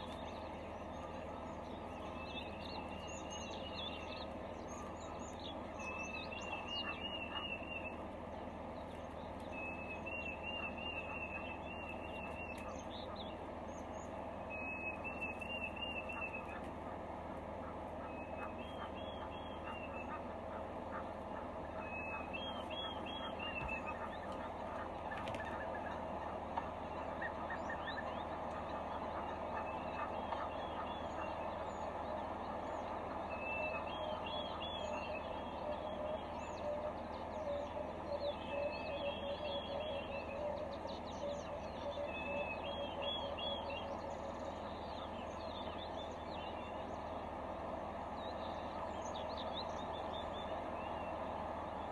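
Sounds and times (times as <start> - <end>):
birds chirping: 0.0 - 51.9
steady background hiss: 0.0 - 51.9.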